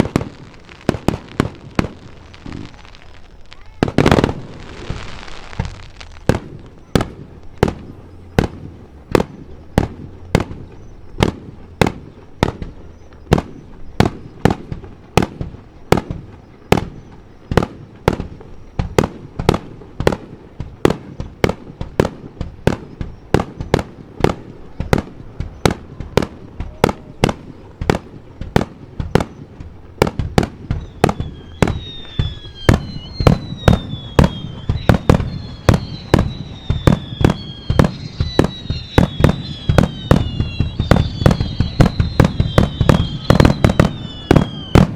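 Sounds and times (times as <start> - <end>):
falling firework whistles: 0.0 - 44.9
fireworks bangs: 0.0 - 44.9.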